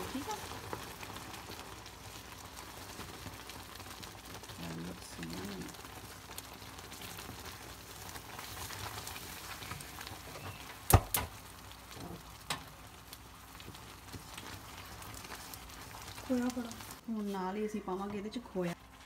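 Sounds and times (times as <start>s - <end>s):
mixture sizzling in a pan: 0.0s - 19.0s.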